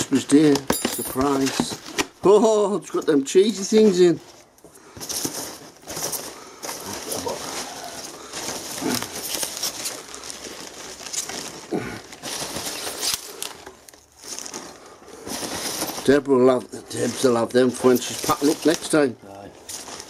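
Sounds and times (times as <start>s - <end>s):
packing peanuts rustling: 0.3s - 20.0s.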